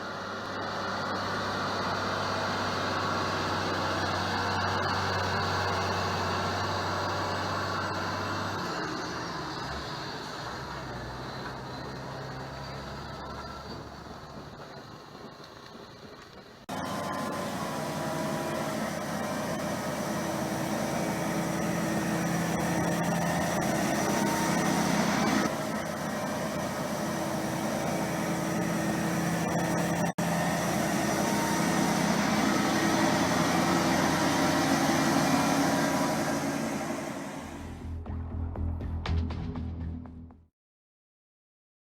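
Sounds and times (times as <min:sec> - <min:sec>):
heavy diesel engine running: 0:00.0 - 0:39.1.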